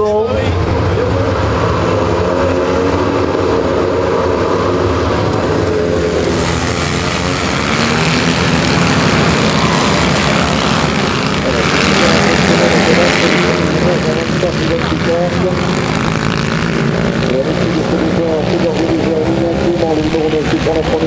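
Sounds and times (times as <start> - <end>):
racing buggy engines revving: 0.0 - 21.0.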